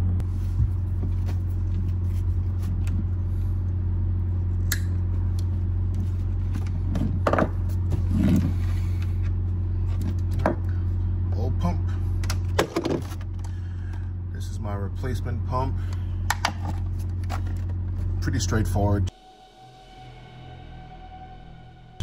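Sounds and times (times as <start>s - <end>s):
machine low hum: 0.0s - 22.0s.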